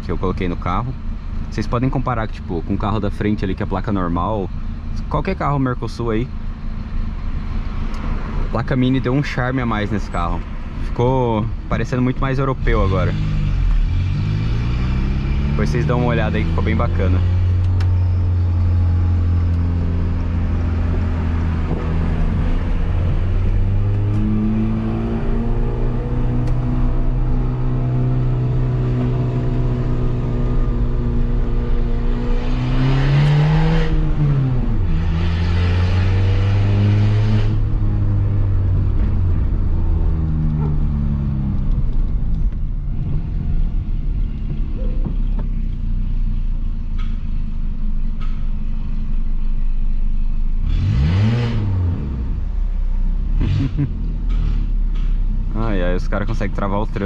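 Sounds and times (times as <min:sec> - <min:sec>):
car engine through loud exhaust: 0:00.0 - 0:57.0.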